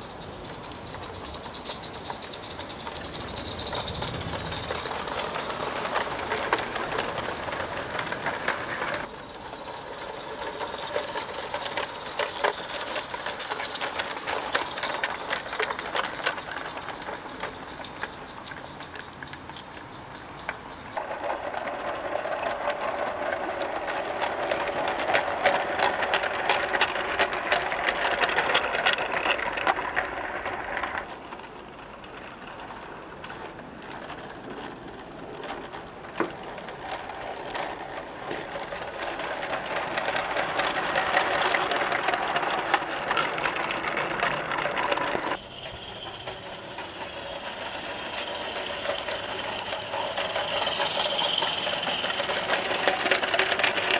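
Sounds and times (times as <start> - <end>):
model train clattering on track: 0.0 - 53.9.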